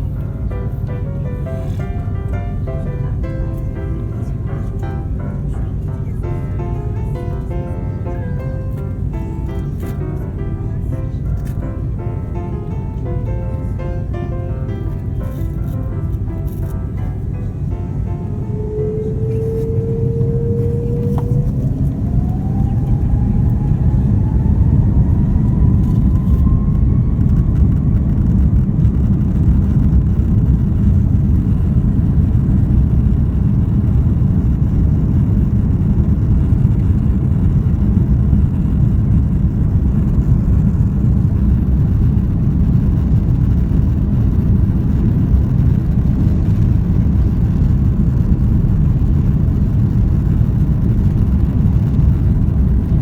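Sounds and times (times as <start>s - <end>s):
jet engine whine: 0.0s - 53.0s
takeoff roll rumble: 0.0s - 53.0s.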